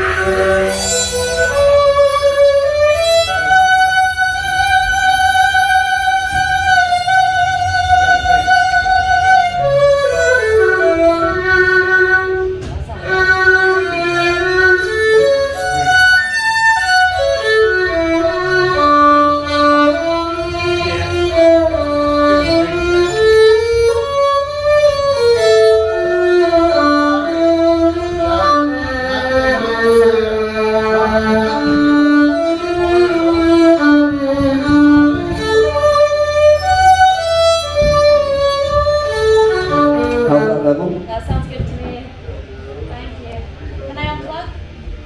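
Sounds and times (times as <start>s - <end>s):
amplified violin melody: 0.0s - 42.1s.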